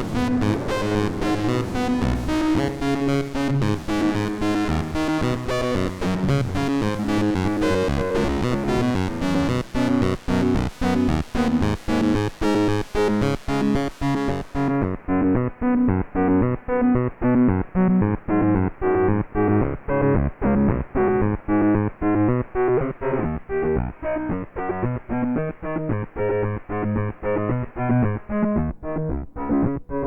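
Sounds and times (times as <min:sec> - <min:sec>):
synthesizer notes: 0:00.0 - 0:30.0.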